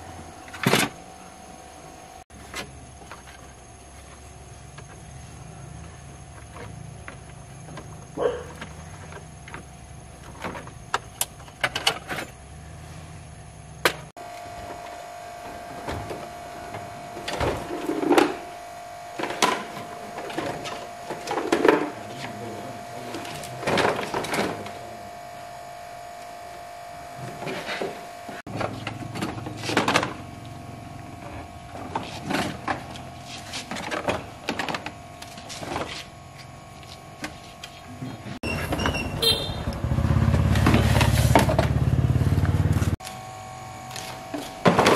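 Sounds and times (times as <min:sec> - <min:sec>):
faint steady hum: 0:00.0 - 0:38.5.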